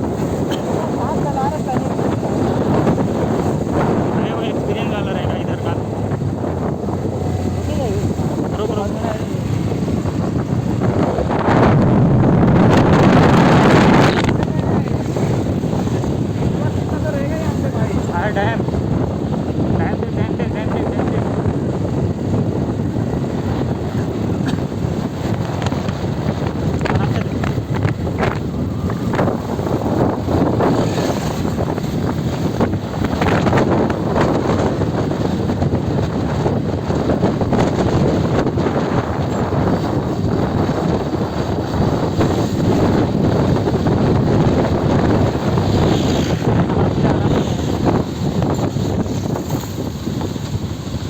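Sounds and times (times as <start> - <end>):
motorcycle engine running: 0.0 - 51.0
wind rushing over microphone: 0.0 - 51.0.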